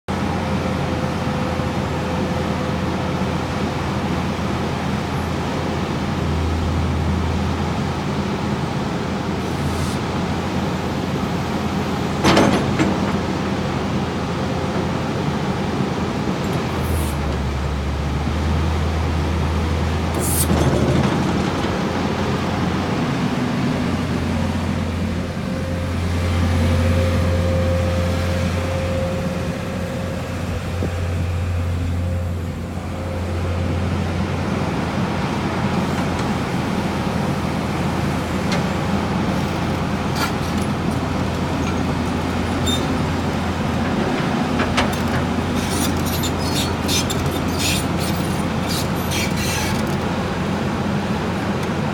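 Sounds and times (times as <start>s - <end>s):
excavator diesel engine running: 0.1s - 51.9s.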